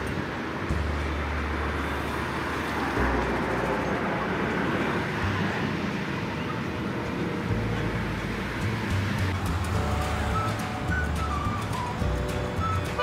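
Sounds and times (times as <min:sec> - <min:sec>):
background music with deep bass: 0:00.0 - 0:05.8, 0:07.5 - 0:13.0.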